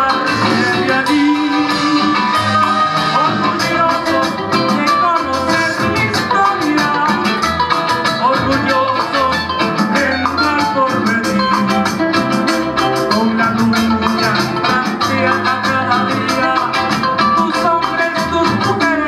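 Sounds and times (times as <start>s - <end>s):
band playing latin music: 0.0s - 19.0s.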